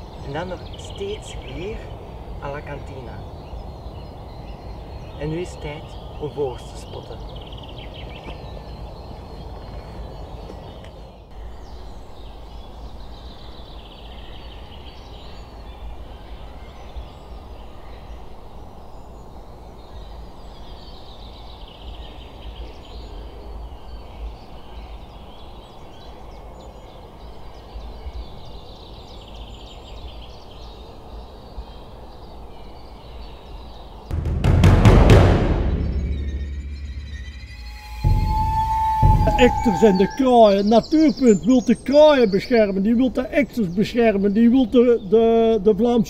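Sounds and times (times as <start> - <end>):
songbirds singing: 0.0 - 34.1, 35.8 - 46.0.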